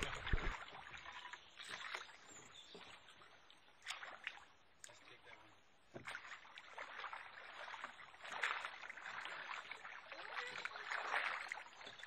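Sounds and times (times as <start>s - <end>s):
water trickling and lapping: 0.0s - 12.0s.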